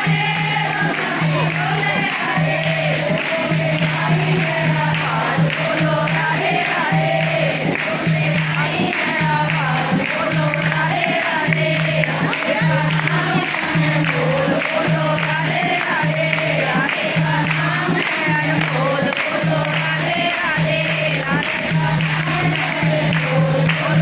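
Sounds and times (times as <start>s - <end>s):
hand drum beat: 0.0s - 24.0s
jingling percussion: 0.0s - 24.0s
voices singing devotional music: 0.0s - 24.0s.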